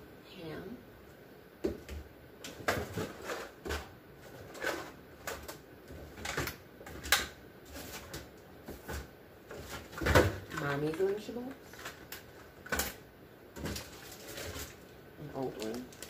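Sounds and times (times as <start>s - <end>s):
plastic packs clicking and knocking: 1.6s - 13.0s, 13.6s - 16.0s.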